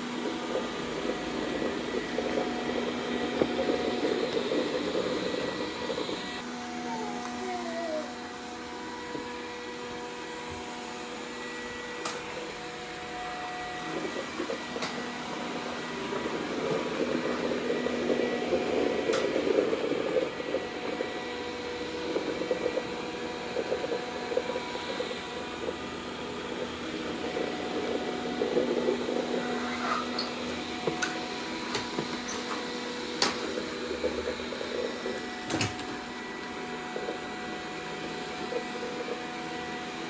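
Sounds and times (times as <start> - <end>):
robot vacuum motor hum: 0.0 - 40.0.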